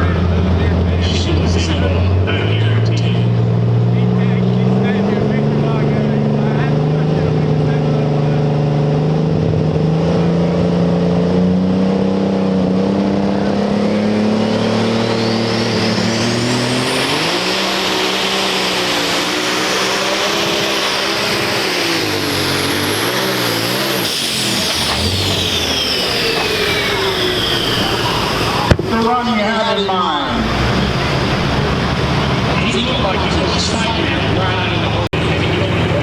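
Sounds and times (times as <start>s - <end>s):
diesel tractor engine under load: 0.0s - 36.0s
high turbo whine: 0.0s - 36.0s.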